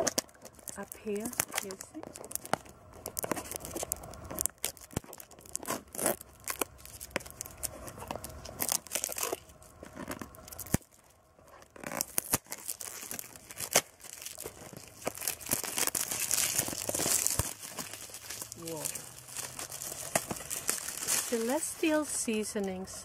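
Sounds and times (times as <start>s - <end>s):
plastic film tearing and crinkling: 0.0s - 22.9s.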